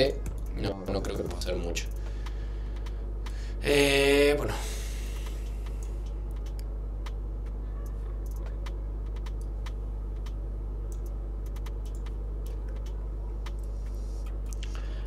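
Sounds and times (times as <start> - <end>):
steady low hum: 0.0 - 15.0
keyboard and mouse clicks: 0.2 - 3.4, 5.2 - 14.6.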